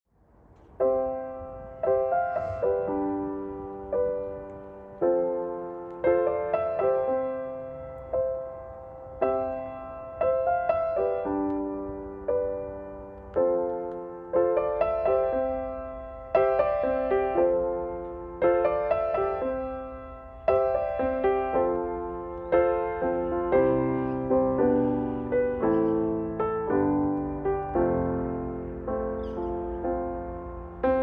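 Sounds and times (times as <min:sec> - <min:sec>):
slow gentle piano tune: 0:00.1 - 0:31.0.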